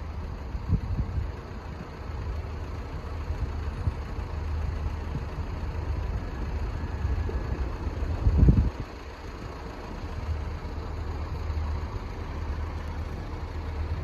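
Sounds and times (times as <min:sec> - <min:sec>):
diesel train engines humming: 0:00.0 - 0:14.0.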